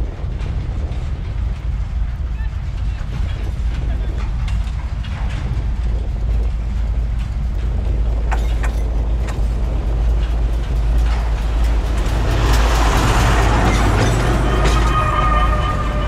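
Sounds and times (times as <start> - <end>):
train rolling noise: 0.0 - 16.0
train rumbling: 0.0 - 16.0
sharp clicks from rails: 0.2 - 16.0.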